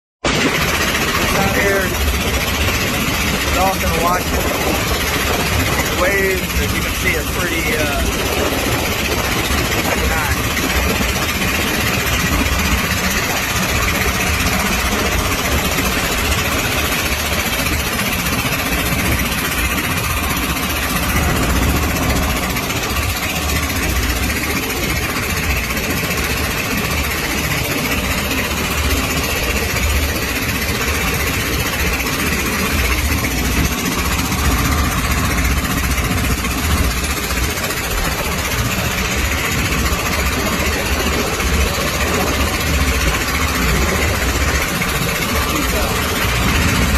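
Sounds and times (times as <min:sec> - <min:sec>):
rushing wind: 0:00.2 - 0:46.9
sea waves: 0:00.2 - 0:46.9
wind buffeting microphone: 0:00.3 - 0:46.9.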